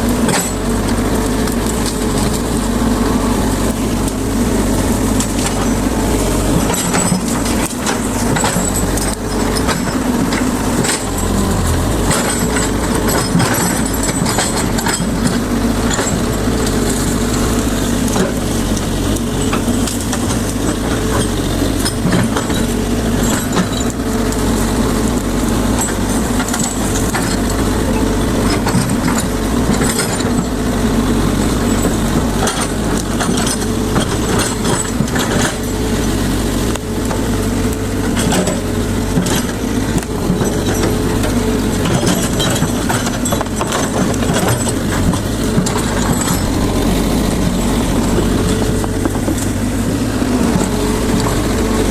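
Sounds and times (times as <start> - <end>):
diesel engine running under load: 0.0 - 51.9.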